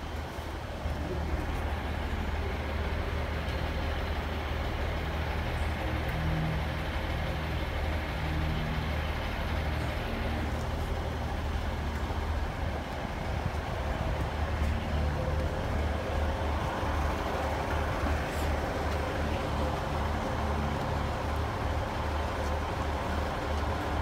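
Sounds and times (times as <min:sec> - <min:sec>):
train diesel engine droning: 0:00.0 - 0:24.0.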